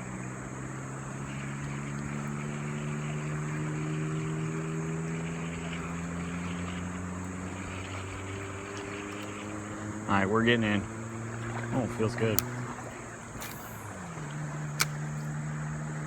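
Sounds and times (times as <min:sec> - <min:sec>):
distant engine drone: 0:00.0 - 0:16.0
outdoor hiss: 0:00.0 - 0:16.0.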